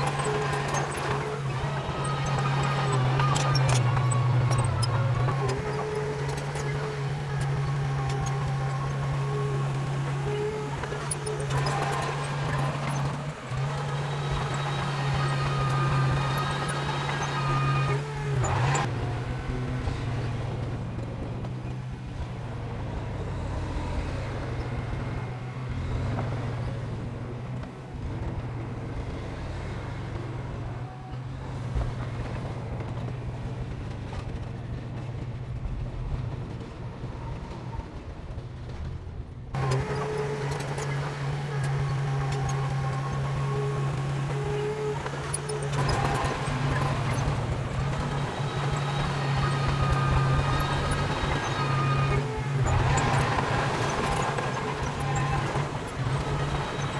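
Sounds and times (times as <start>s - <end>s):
heavy machinery diesel engine droning: 0.0s - 56.9s.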